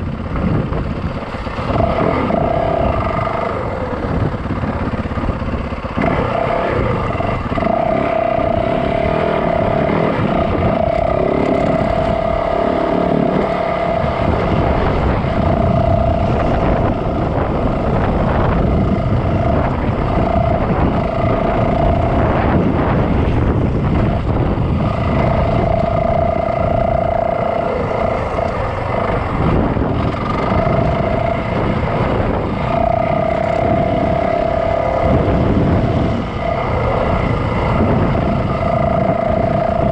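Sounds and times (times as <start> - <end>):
dirt bike engine running: 0.0 - 39.9
road and wind noise: 0.0 - 39.9
steady whine: 0.0 - 39.9.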